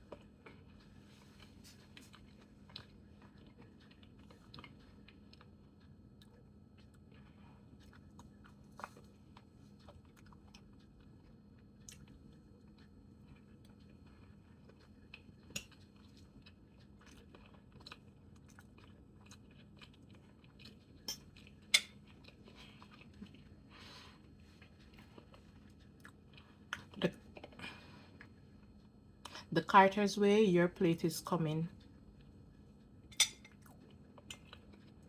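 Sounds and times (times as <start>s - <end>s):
wet chewing mouth sounds: 0.1s - 29.4s.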